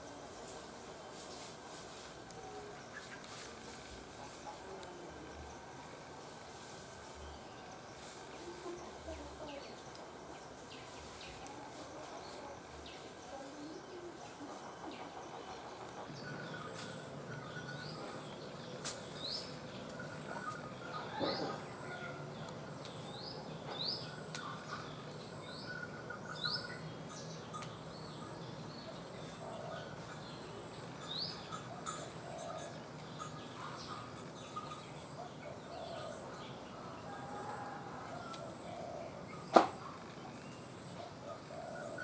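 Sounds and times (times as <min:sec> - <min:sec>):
soft chirps of other birds: 0:00.0 - 0:05.7, 0:06.5 - 0:42.0.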